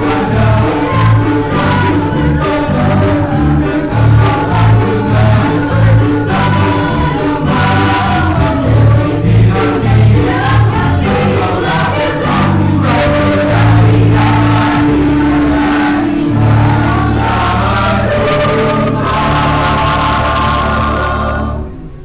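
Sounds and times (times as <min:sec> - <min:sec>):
choir singing a hymn: 0:00.0 - 0:22.0
instrumental accompaniment: 0:00.0 - 0:22.0.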